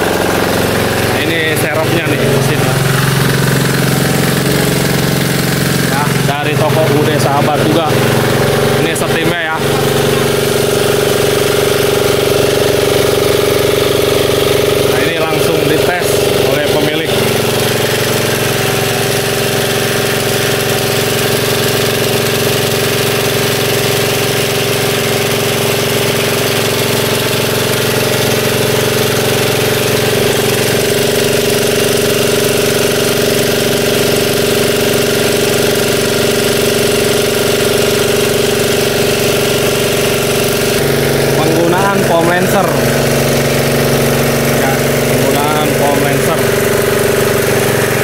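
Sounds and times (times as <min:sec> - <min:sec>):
pressure washer engine running: 0:00.0 - 0:48.0.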